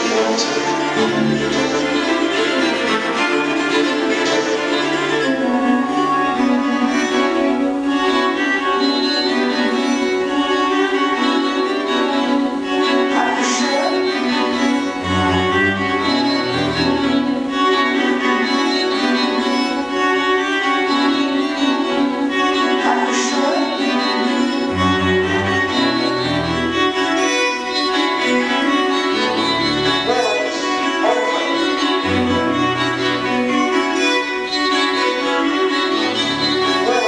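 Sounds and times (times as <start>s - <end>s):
string quartet playing: 0.0s - 37.0s.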